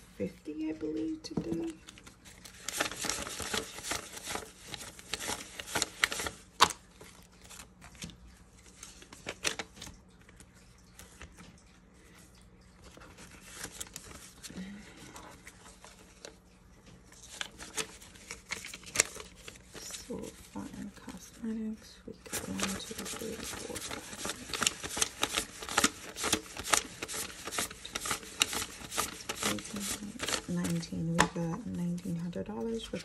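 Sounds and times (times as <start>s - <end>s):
plastic envelope crackling: 0.9s - 33.0s
paper banknotes rustling: 1.3s - 12.2s, 12.8s - 21.5s, 22.2s - 33.0s.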